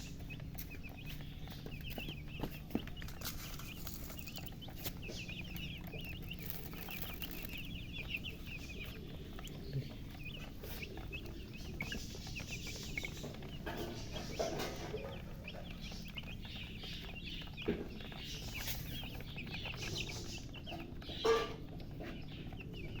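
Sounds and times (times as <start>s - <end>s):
baby chicks peeping: 0.0s - 23.0s.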